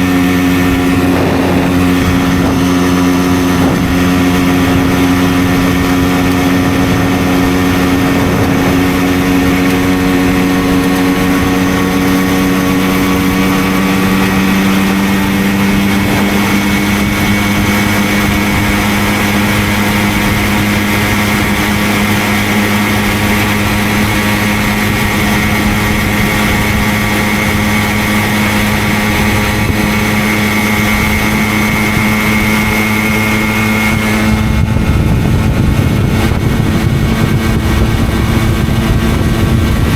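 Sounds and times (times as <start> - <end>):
two-stroke moped engine running: 0.0 - 39.9.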